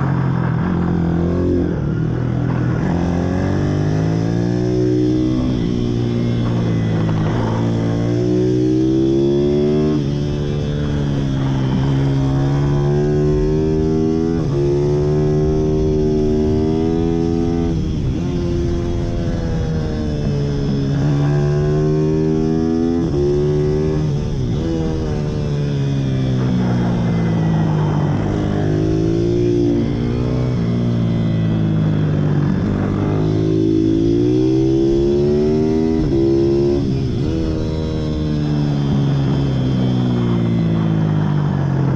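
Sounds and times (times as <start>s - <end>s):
pit bike engine steady note: 0.0s - 41.9s.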